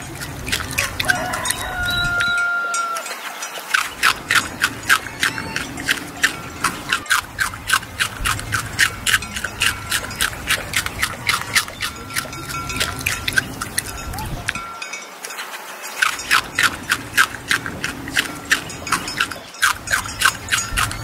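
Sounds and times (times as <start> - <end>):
rabbits crunching greens: 0.0 - 21.0.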